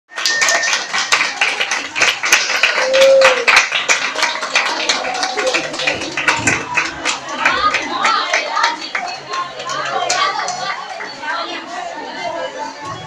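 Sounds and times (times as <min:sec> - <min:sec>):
audience clapping: 0:00.1 - 0:11.2
people chattering: 0:00.1 - 0:13.0.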